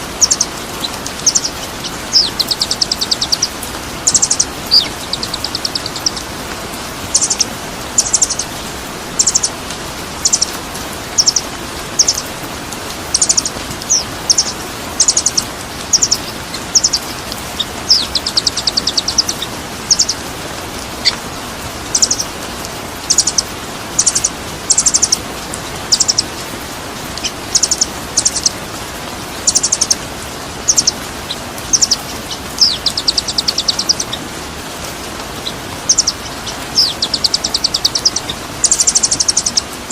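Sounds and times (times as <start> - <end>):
songbird chirping: 0.0 - 39.9
steady hiss: 0.0 - 39.9.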